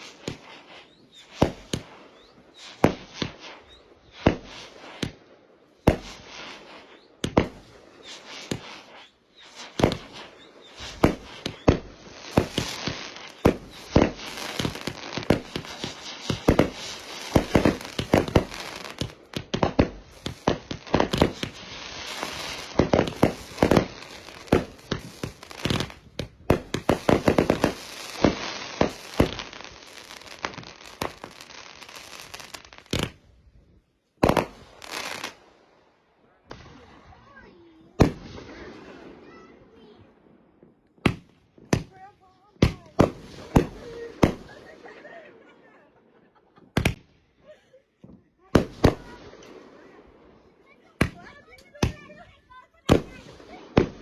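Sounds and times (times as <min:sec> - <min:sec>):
fireworks bangs and crackling: 0:00.0 - 0:47.4, 0:48.0 - 0:54.0.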